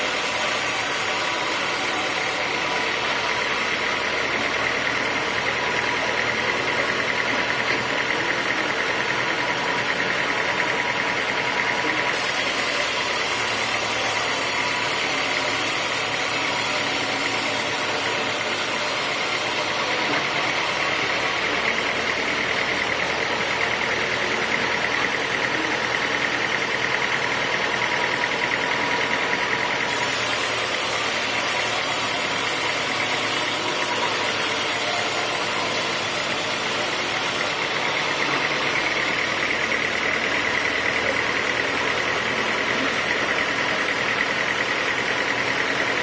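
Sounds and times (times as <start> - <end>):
sawmill machinery running: 0.0 - 46.0.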